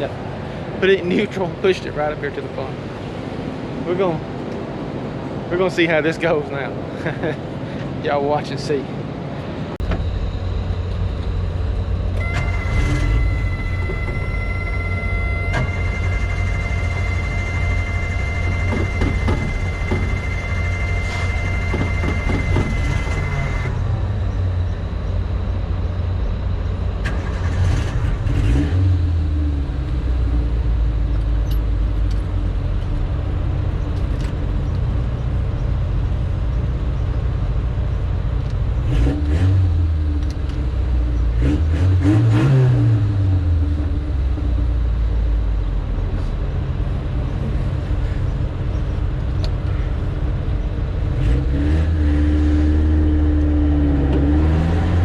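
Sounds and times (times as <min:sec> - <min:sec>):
car engine idling and revving: 0:09.0 - 0:55.0.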